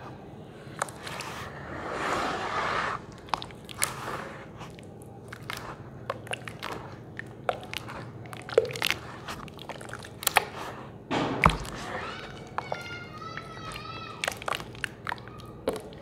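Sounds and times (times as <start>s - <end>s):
hands squelching wet sand paste: 0.7s - 10.8s, 11.4s - 16.0s.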